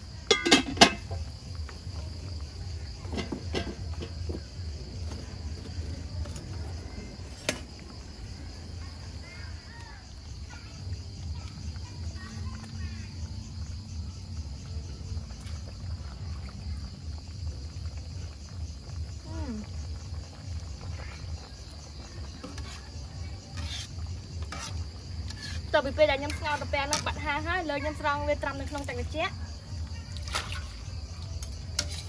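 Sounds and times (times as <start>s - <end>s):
crickets chirping: 0.0s - 32.0s
wood fire rumbling: 0.0s - 32.0s.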